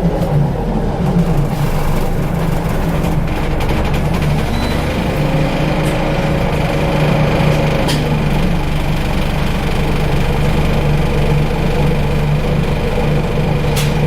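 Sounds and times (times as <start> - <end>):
bus diesel engine running: 0.0 - 14.0
gearbox whine: 0.0 - 14.0.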